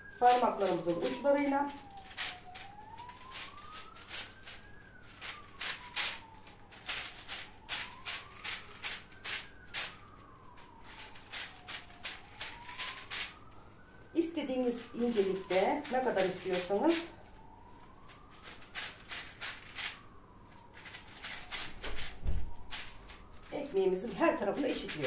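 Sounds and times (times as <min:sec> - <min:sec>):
emergency siren wailing: 0:00.0 - 0:25.0.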